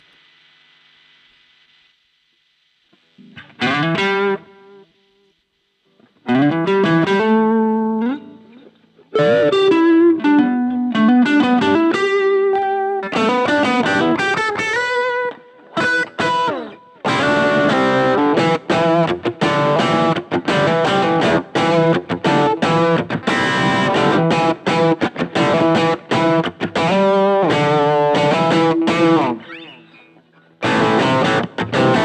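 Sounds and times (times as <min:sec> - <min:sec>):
electric guitar through small amp: 0:02.9 - 0:32.0.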